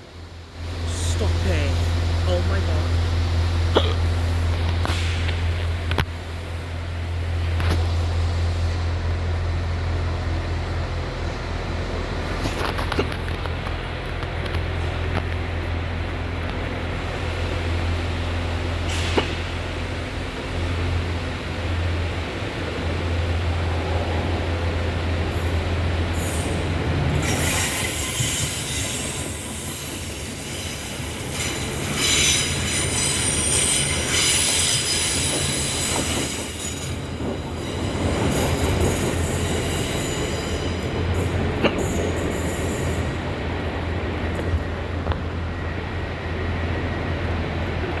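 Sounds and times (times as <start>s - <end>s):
train running on rails: 0.0s - 48.0s.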